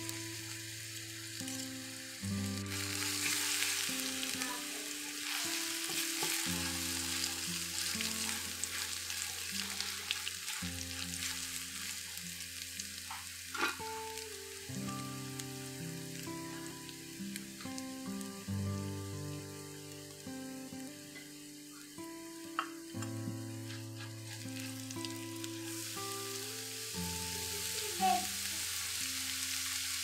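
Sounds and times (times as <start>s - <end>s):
soft background music: 0.0s - 30.0s
spices sizzling in hot oil: 0.0s - 30.0s.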